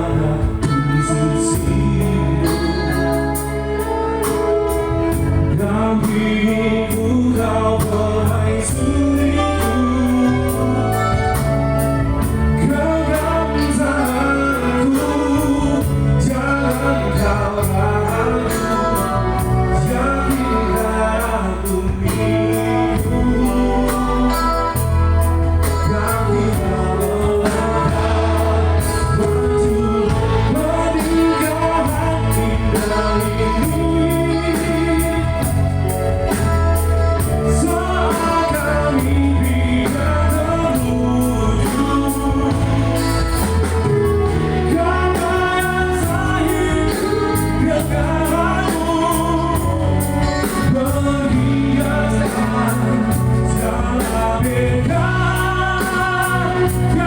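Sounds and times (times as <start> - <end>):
bass line: 0.0 - 57.0
person singing: 0.0 - 57.0.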